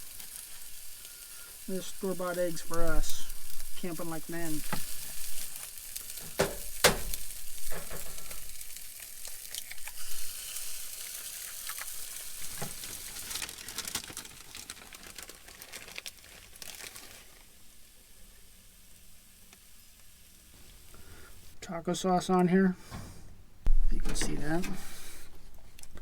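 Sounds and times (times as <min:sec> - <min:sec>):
food sizzling in a pan: 0:00.0 - 0:21.6.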